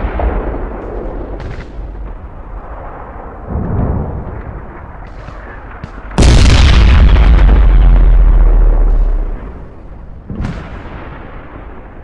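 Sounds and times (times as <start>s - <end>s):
low rumbling booms: 0.0s - 12.0s.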